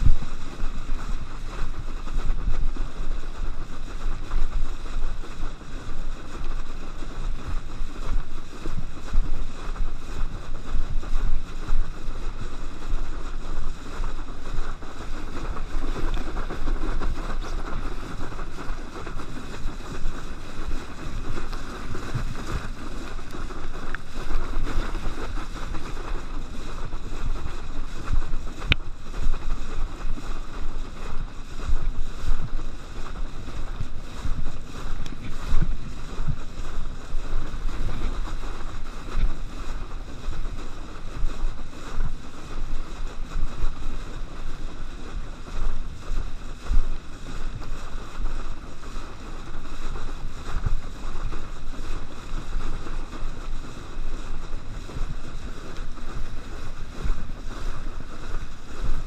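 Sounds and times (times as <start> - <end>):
water hissing and slapping: 0.0 - 59.0
wind buffeting microphone: 0.0 - 59.0.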